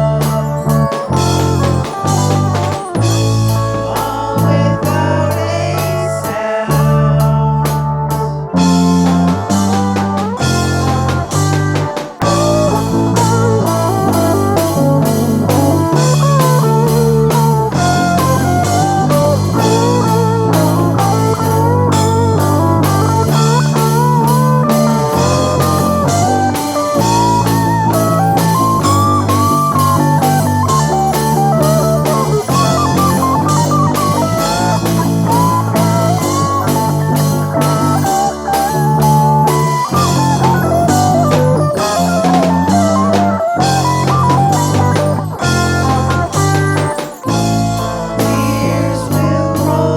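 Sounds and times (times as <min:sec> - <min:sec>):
bass guitar: 0:00.0 - 0:49.9
drum kit: 0:00.0 - 0:49.9
lead guitar solo: 0:00.0 - 0:49.9.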